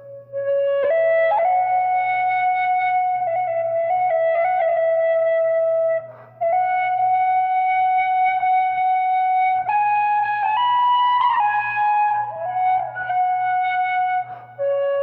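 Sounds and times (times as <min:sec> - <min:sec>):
tin whistle slow melody: 0:00.0 - 0:15.0.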